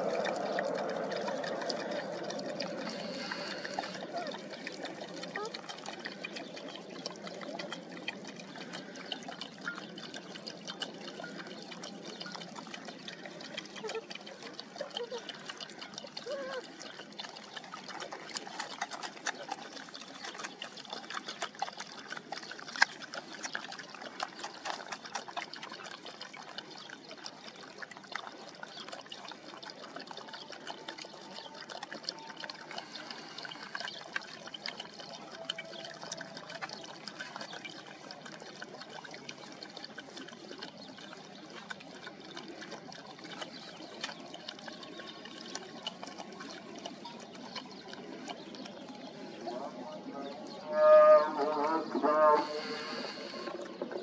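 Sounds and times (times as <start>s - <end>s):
puppies suckling: 0.0s - 50.7s, 51.4s - 54.0s
dog lapping water: 0.0s - 54.0s.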